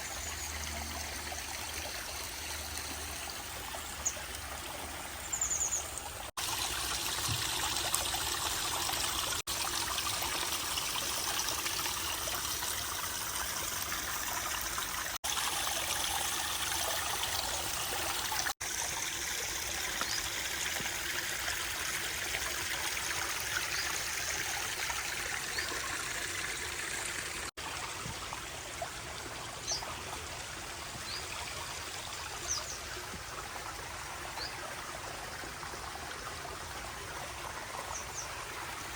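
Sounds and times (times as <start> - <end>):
water trickling over rocks: 0.0 - 38.9.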